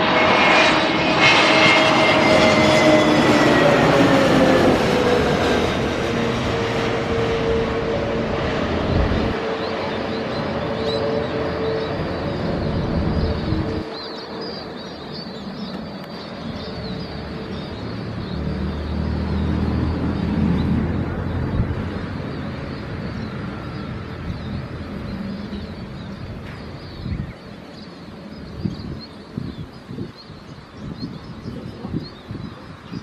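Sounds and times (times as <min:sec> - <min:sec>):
jet engine rumble: 0:00.0 - 0:33.0
birds chirping: 0:00.1 - 0:33.0.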